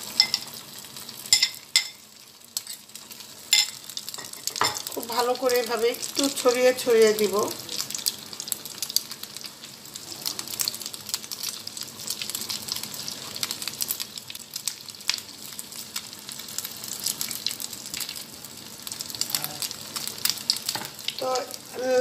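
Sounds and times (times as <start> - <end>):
egg sizzling in hot oil: 0.0 - 22.0.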